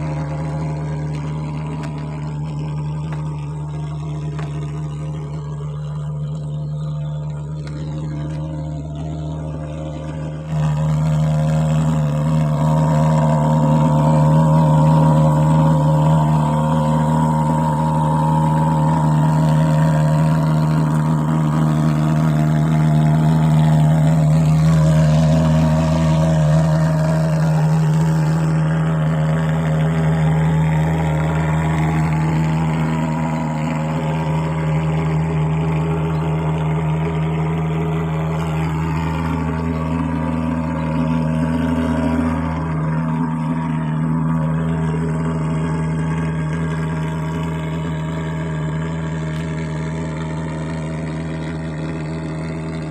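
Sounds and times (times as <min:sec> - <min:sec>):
fogging machine engine running: 0:00.0 - 0:52.9.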